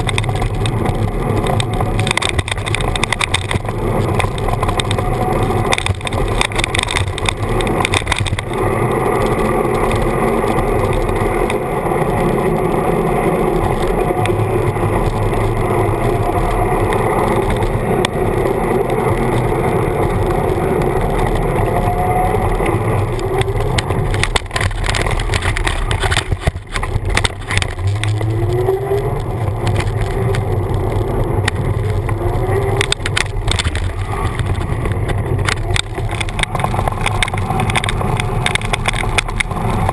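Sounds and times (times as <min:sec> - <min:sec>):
bicycle knocks and rattles: 0:00.0 - 0:39.9
wind and road rumble: 0:00.0 - 0:39.9.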